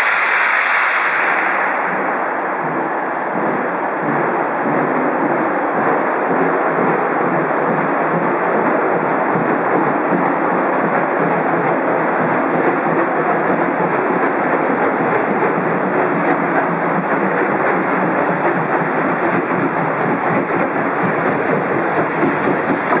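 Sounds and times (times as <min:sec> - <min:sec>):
steam locomotive exhaust: 0:00.0 - 0:23.0.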